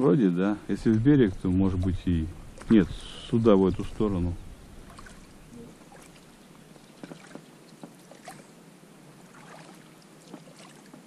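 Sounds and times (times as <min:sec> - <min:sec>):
water splashing and dripping: 0:00.7 - 0:08.6, 0:09.2 - 0:11.0.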